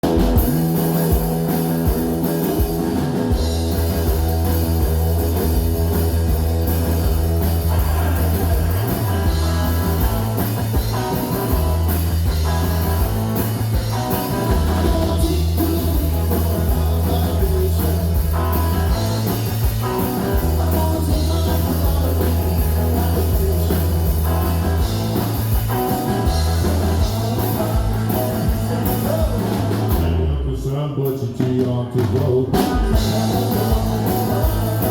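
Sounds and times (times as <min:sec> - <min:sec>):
drum kit beat: 0:00.0 - 0:30.4, 0:31.0 - 0:34.9
bass line: 0:00.0 - 0:34.9
live rock band: 0:00.0 - 0:34.9.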